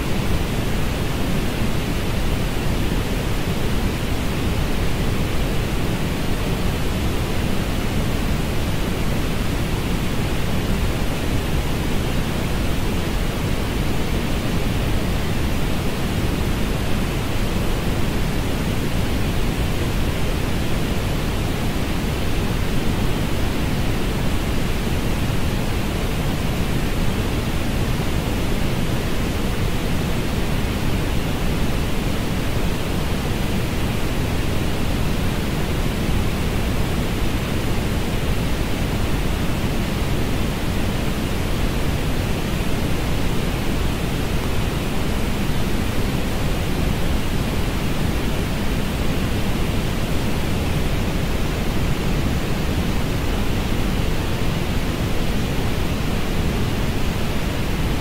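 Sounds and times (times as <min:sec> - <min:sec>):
steady low-weighted hiss: 0:00.0 - 0:58.0.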